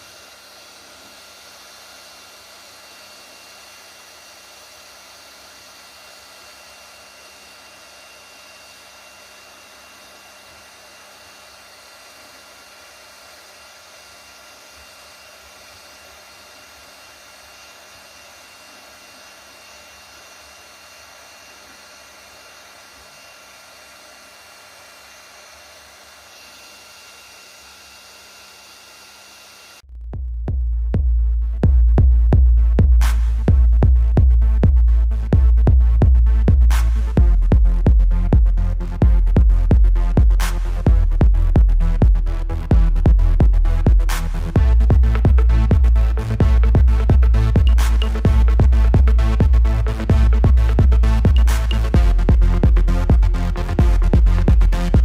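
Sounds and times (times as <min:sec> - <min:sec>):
printer cooling fans whirring: 0:00.0 - 0:29.8, 0:36.3 - 0:55.0.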